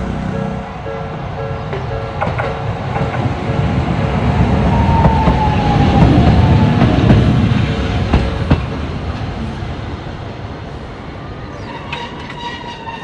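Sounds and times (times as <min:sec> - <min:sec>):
train passing rumble: 0:00.0 - 0:13.0
wheels clacking over rail joints: 0:00.0 - 0:13.0.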